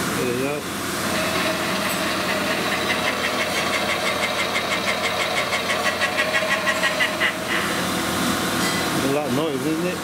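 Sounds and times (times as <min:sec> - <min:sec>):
lathe motor humming: 0:00.8 - 0:09.2.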